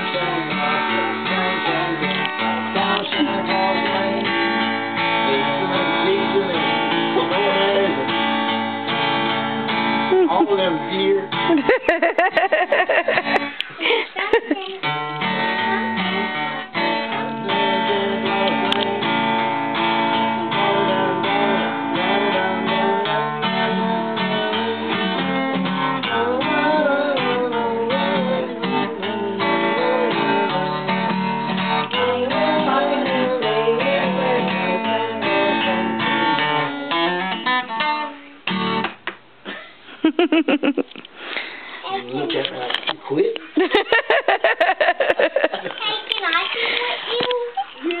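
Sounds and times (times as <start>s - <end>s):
acoustic guitar strumming: 0.0s - 13.7s, 14.3s - 39.2s.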